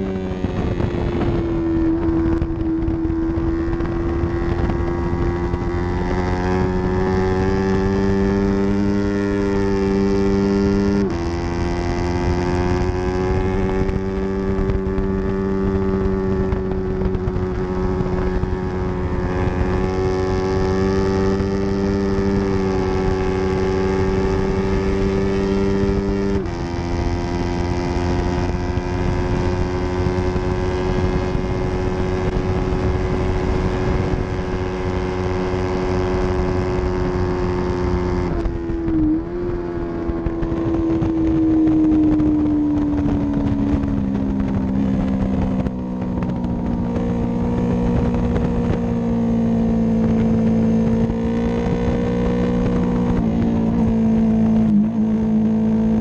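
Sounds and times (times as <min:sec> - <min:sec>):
motorcycle engine revving high: 0:00.0 - 0:56.0.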